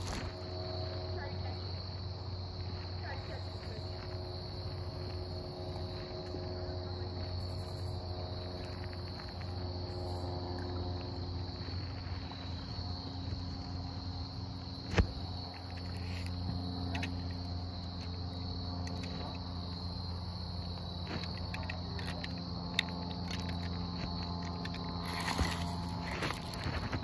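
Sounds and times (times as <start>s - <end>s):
insects chirring: 0.0s - 27.0s
low hum: 0.0s - 27.0s.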